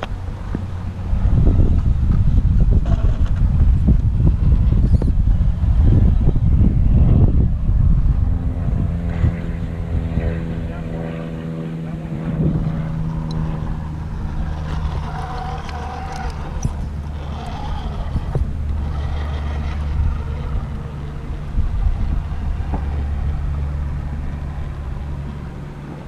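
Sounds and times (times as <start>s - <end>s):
low engine-like hum: 0.0s - 26.0s
motor whine: 0.0s - 26.0s.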